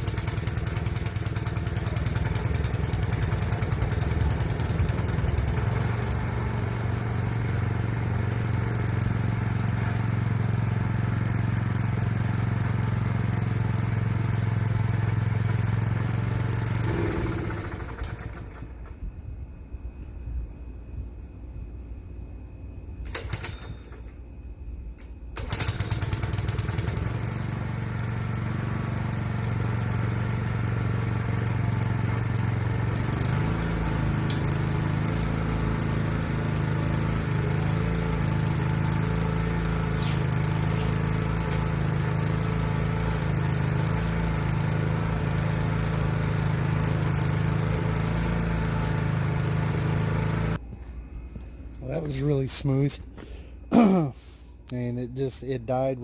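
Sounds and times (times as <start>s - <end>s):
small engine starting and running: 0.0s - 19.1s, 23.1s - 24.2s, 25.0s - 50.6s.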